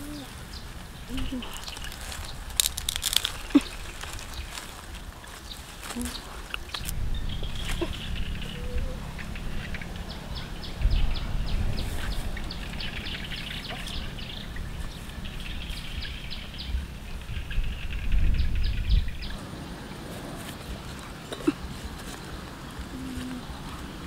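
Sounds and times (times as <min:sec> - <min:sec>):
low rumble: 0:00.0 - 0:24.0
small birds chirping: 0:00.0 - 0:24.0.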